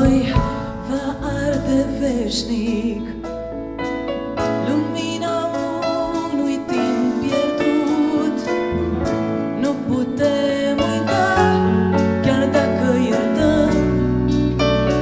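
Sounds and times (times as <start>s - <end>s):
woman singing into a microphone: 0.0s - 3.4s, 4.5s - 15.0s
big band playing: 0.0s - 15.0s.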